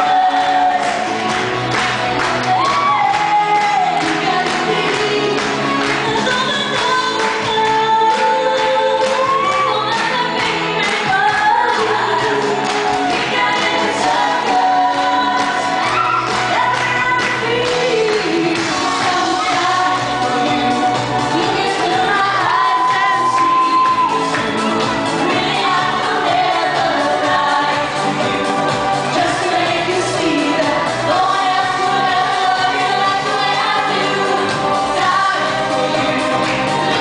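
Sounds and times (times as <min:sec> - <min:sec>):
amplified backing music with beat: 0:00.0 - 0:37.0
women singing into microphones: 0:00.0 - 0:37.0.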